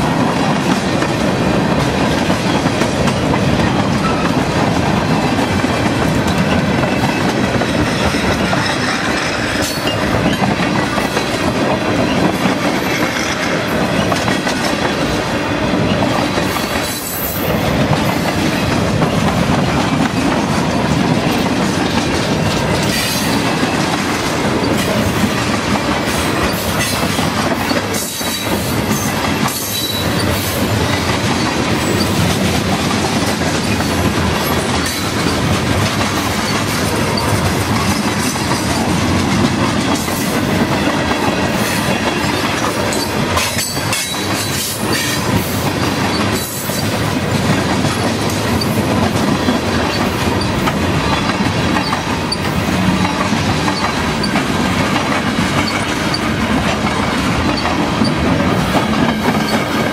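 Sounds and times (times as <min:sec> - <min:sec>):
train wheels clickety-clack on rails: 0:00.0 - 0:59.9.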